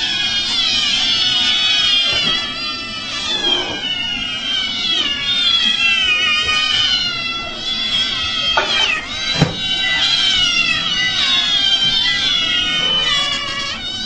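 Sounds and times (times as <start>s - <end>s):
cats meowing: 0.0s - 14.0s.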